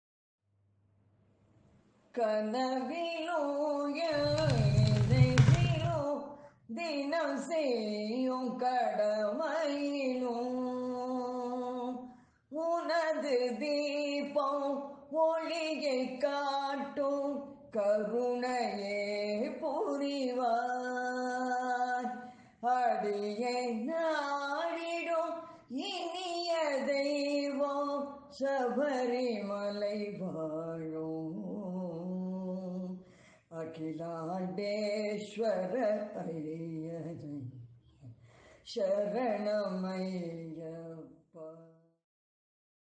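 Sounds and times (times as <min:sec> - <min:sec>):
person singing devotional song: 0:02.1 - 0:41.8.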